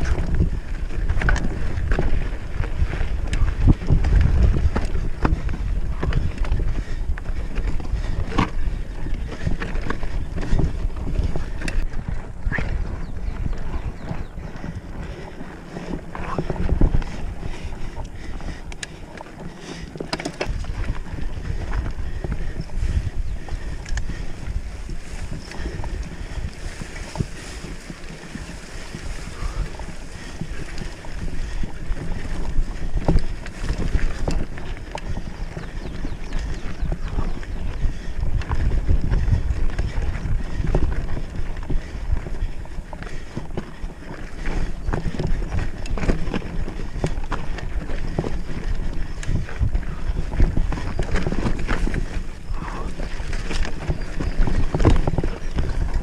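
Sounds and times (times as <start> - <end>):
mountain bike rattling over rocks: 0.0 - 56.0
wind buffeting microphone: 0.0 - 56.0.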